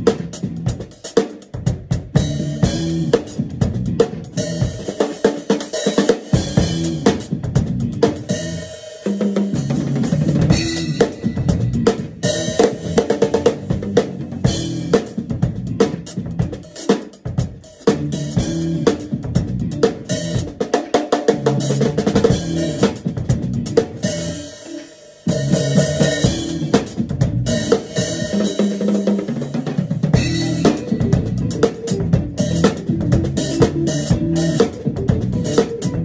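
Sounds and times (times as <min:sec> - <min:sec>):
drum kit funky groove: 0:00.0 - 0:36.0.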